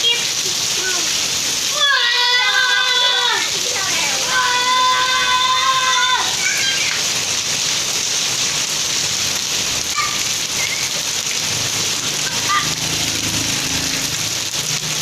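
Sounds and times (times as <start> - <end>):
heavy rain on hard surfaces: 0.0 - 15.0.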